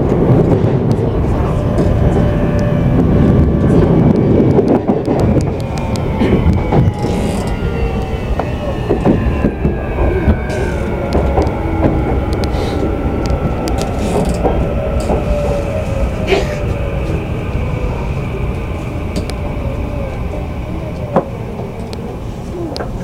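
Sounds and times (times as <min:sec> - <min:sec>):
rail clicks: 0:00.0 - 0:23.0
train wheels rumbling on rails: 0:00.0 - 0:23.0.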